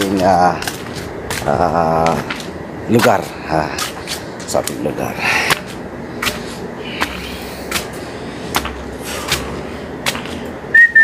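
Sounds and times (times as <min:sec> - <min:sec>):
footsteps on hard ground: 0:00.0 - 0:10.6
steady background noise: 0:00.0 - 0:11.0.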